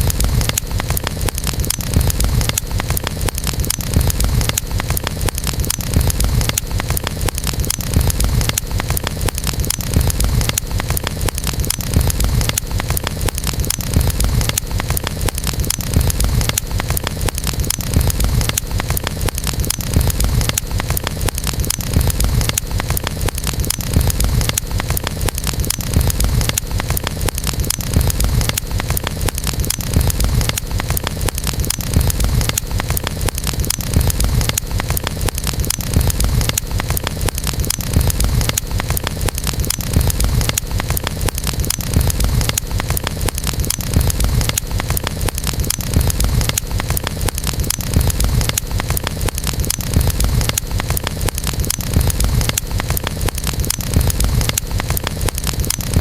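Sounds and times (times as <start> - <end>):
campfire flames rumbling: 0.0 - 56.0
fire crackling and popping: 0.0 - 56.0.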